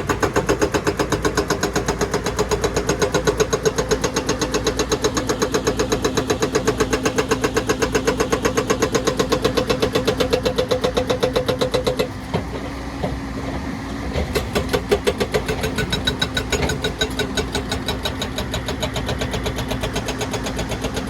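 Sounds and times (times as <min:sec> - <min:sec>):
excavator engine humming: 0:00.0 - 0:21.0.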